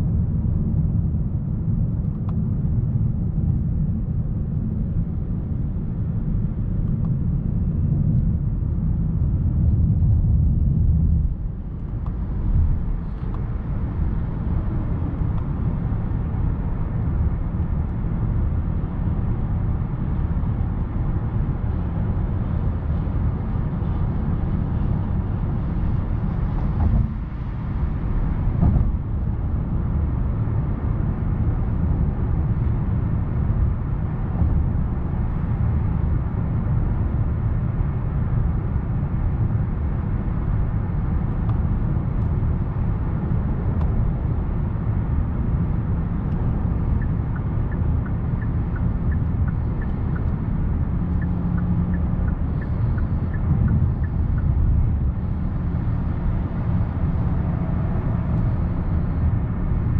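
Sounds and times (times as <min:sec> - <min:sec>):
car engine hum: 0:00.0 - 0:59.9
road and tyre rumble: 0:00.0 - 0:59.9.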